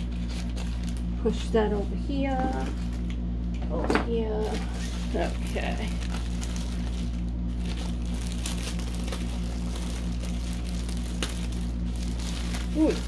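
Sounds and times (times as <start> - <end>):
plastic sleeve crinkling: 0.0 - 3.1, 4.4 - 13.0
steady low hum: 0.0 - 13.0.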